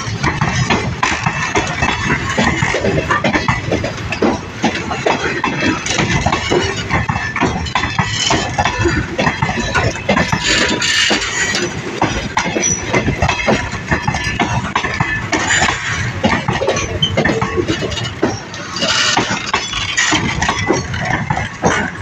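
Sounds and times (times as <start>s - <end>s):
train wheels clattering over joints: 0.0s - 22.0s.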